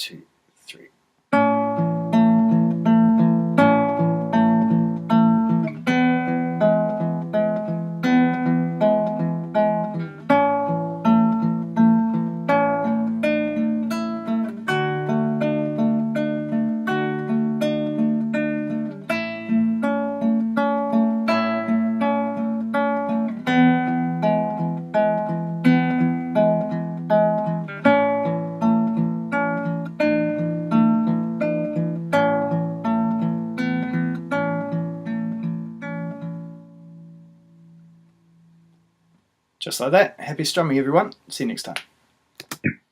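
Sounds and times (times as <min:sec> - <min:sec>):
fingerpicked acoustic guitar: 0:01.3 - 0:38.9.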